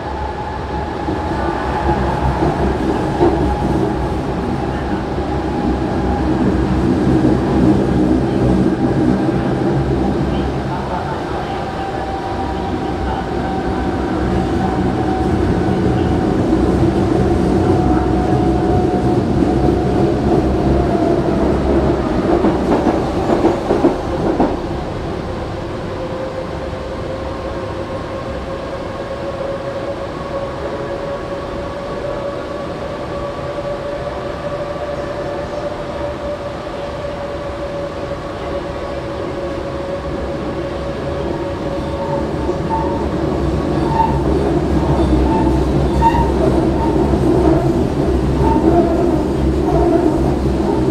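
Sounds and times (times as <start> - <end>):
train wheels rumbling on rails: 0.0 - 50.9
train whining tone: 0.0 - 50.9.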